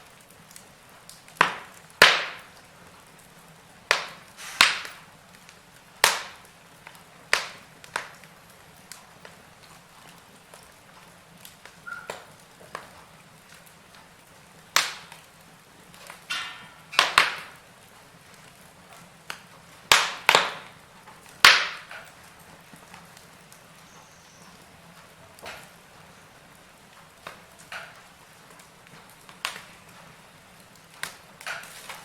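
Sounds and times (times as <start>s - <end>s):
fire crackling and popping: 0.0s - 32.0s
fire hissing: 0.0s - 32.0s.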